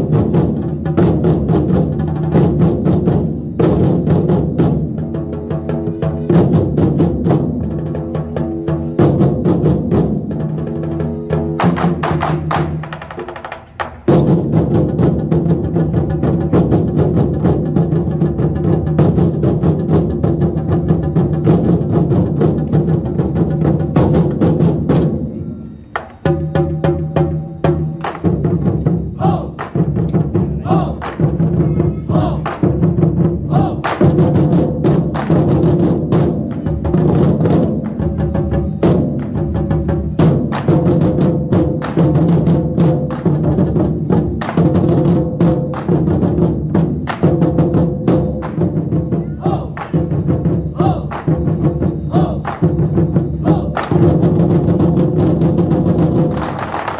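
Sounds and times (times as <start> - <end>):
drums in fast rhythm: 0.0 - 25.4, 26.0 - 56.9.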